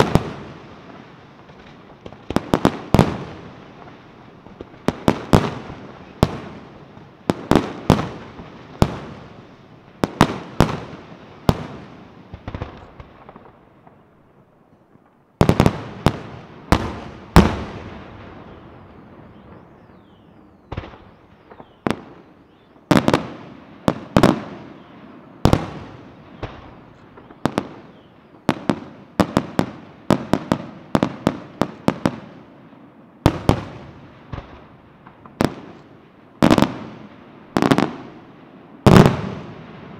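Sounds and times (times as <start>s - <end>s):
fireworks bangs echoing: 0.0s - 39.9s.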